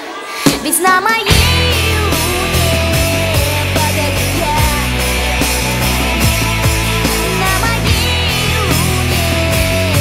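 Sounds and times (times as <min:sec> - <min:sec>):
live rock band playing: 0:00.3 - 0:10.0
electric guitar lead line: 0:01.2 - 0:10.0.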